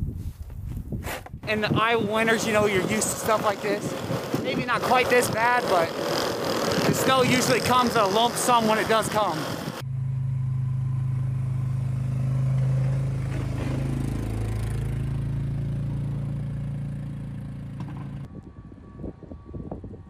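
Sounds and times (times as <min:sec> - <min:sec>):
wind: 0:00.0 - 0:20.0
atv engine running: 0:02.0 - 0:18.3.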